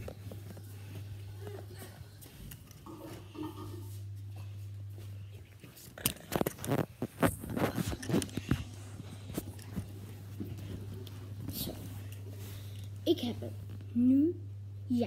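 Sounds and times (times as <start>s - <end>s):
rustling handling noise: 0.0s - 13.8s
low electrical hum: 0.0s - 15.0s.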